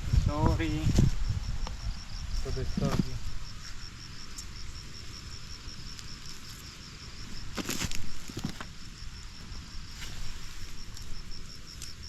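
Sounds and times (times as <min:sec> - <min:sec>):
rustle: 0:00.0 - 0:12.0
insect chirping rapidly: 0:00.2 - 0:12.0.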